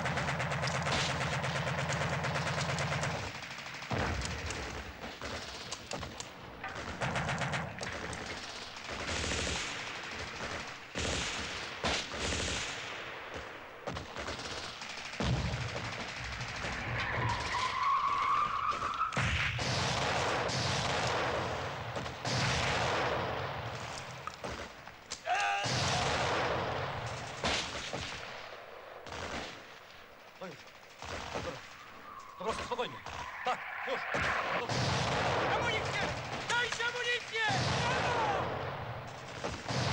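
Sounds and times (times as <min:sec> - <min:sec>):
machine-gun fire: 0:00.0 - 0:17.7, 0:18.7 - 0:24.8, 0:25.6 - 0:33.4, 0:34.2 - 0:39.9
rifle shots: 0:00.0 - 0:39.9.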